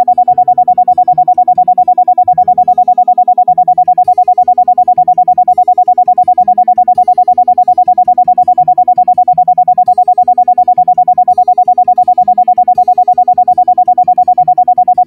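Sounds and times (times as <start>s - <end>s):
rapidly pulsing steady tone: 0.0s - 15.0s
soft keyboard music: 0.0s - 15.0s.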